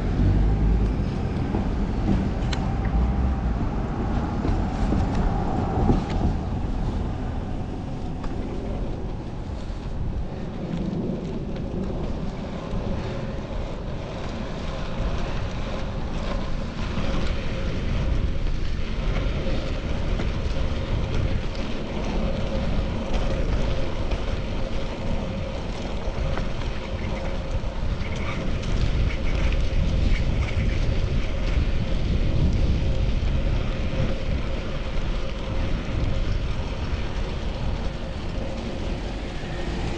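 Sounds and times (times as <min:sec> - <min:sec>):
road and traffic rumble: 0:00.0 - 0:39.9
wind buffeting microphone: 0:00.0 - 0:39.9.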